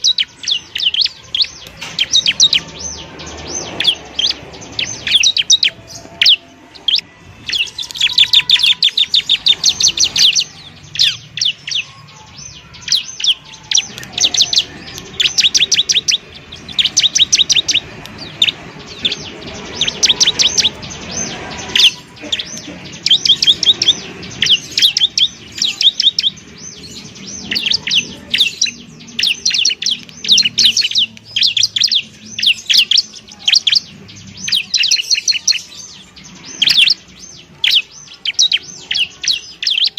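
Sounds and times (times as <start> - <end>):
bird high chirping song: 0.0 - 39.9.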